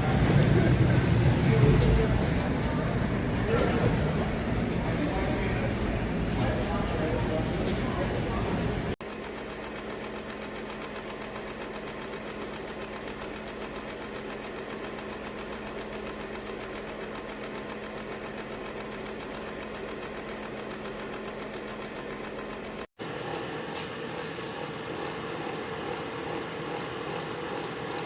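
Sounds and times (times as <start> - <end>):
space heater fan humming: 0.0 - 28.0.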